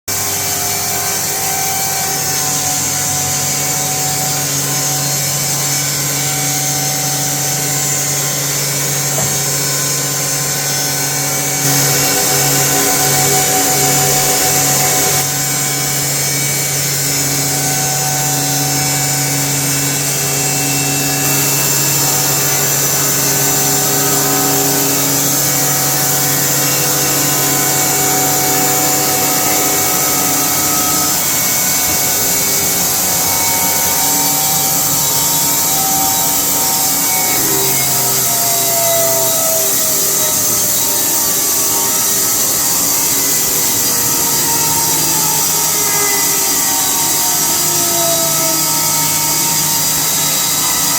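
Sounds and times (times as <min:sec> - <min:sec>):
band saw cutting log: 0:00.1 - 0:50.9.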